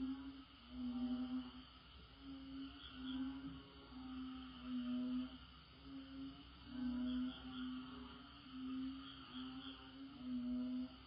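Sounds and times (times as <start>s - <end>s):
crickets and cicadas chorus: 0.0s - 11.0s
frogs calling: 0.0s - 11.0s.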